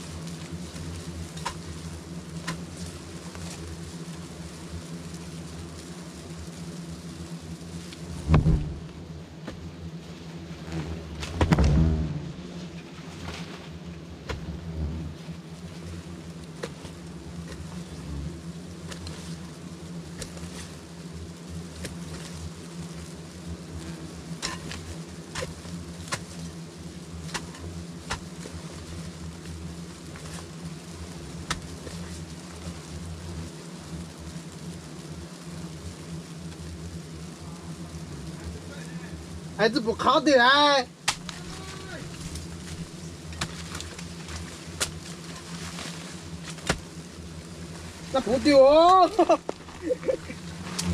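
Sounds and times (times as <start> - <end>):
bees buzzing: 0.0 - 50.9.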